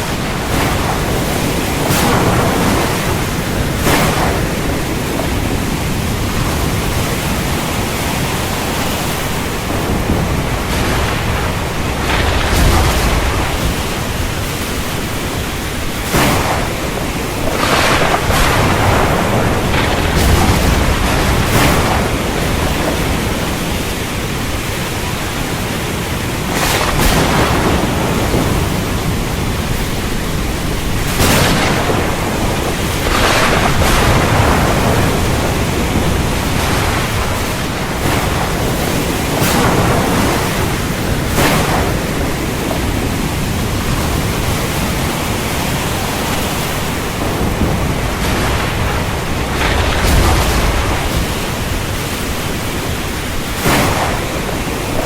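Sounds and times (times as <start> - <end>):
heavy rain: 0.0 - 55.0
thunder: 0.0 - 55.0.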